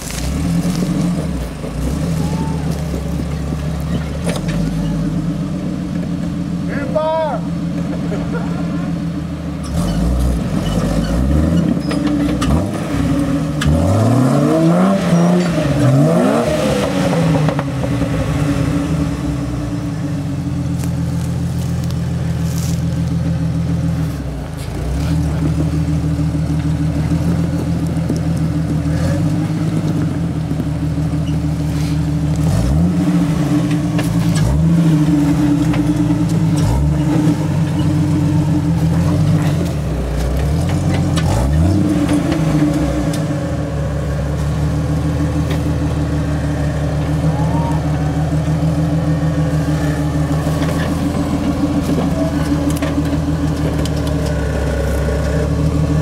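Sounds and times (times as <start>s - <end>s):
engine working under load: 0.0s - 56.0s.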